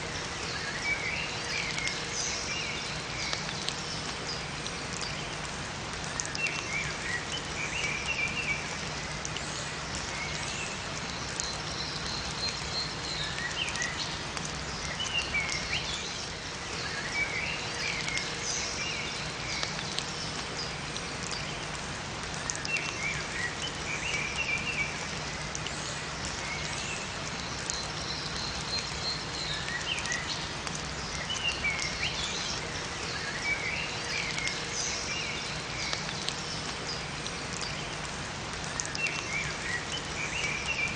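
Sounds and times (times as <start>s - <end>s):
songbirds chirping and twittering: 0.0s - 40.9s
steady rain in a forest: 0.0s - 40.9s.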